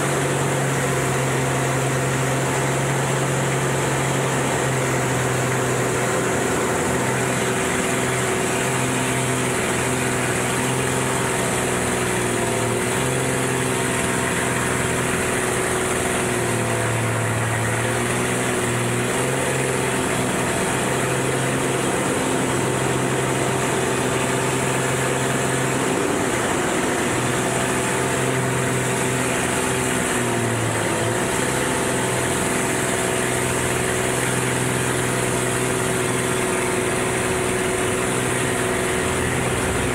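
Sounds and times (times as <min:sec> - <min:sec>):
plane engine and propeller: 0:00.0 - 0:39.9.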